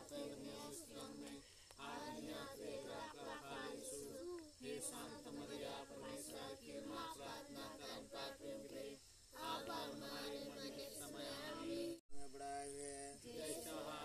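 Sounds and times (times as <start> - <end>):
adults and children singing: 0.0 - 12.0, 13.0 - 14.0.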